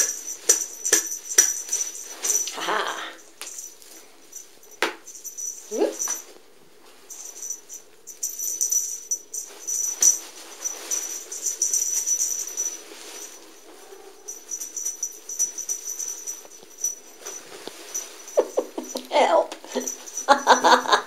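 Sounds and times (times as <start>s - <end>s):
cat toy rustling and rattling: 0.0s - 21.0s.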